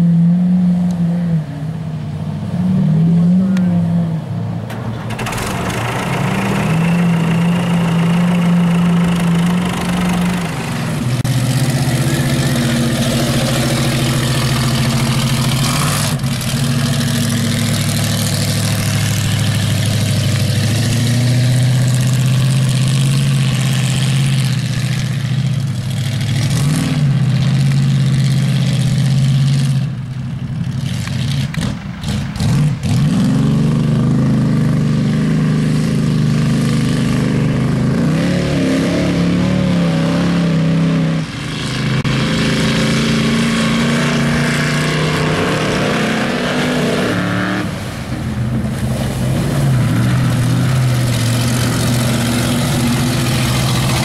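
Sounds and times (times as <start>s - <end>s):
truck engines revving in mud: 0.0s - 54.0s.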